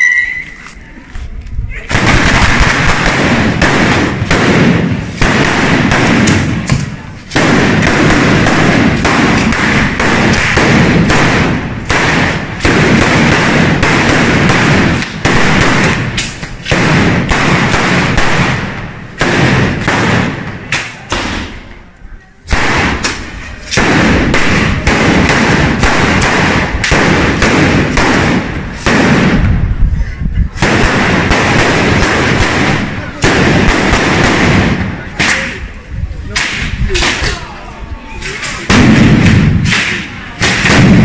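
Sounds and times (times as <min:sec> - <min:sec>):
firecrackers banging: 0:01.7 - 0:41.0.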